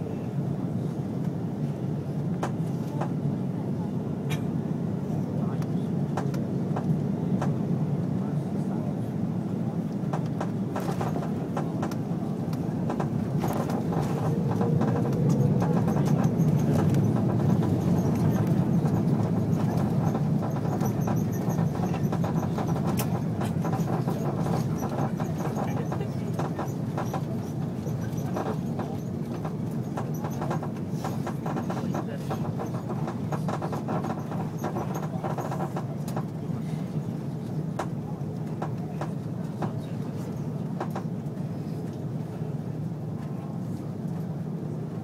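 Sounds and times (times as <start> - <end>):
airliner engine and airflow rumble: 0.0 - 45.0.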